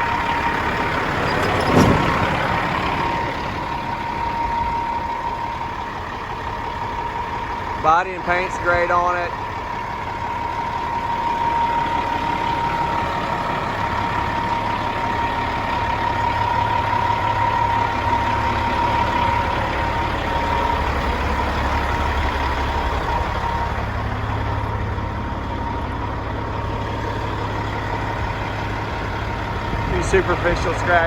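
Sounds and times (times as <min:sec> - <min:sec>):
diesel truck engine idling: 0:00.0 - 0:31.0.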